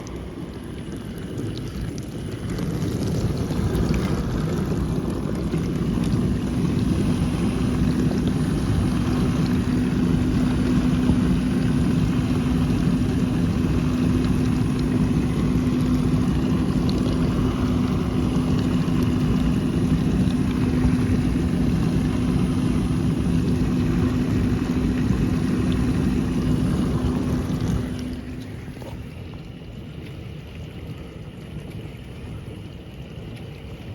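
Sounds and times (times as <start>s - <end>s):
water churning and spraying: 0.0s - 33.9s.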